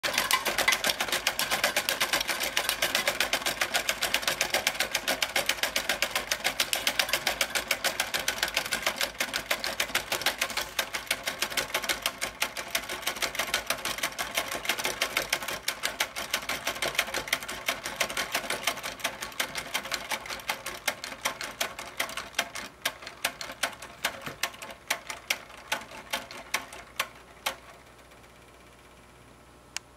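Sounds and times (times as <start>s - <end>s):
wind-up toy mechanical clatter: 0.0s - 27.6s.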